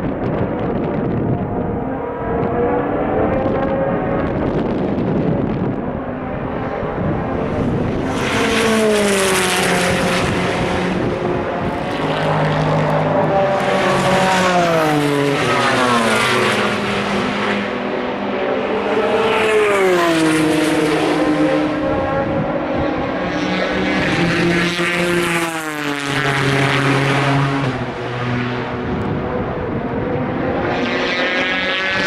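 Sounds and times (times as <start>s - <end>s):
race cars passing: 0.0s - 32.0s.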